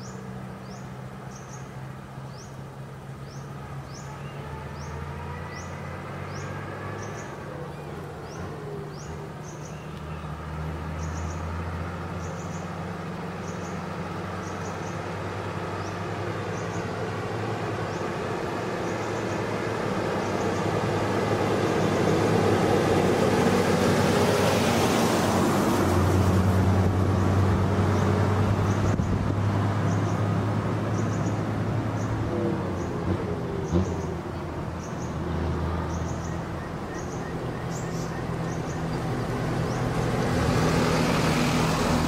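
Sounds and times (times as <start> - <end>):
diesel truck engine rumble: 0.0 - 42.0.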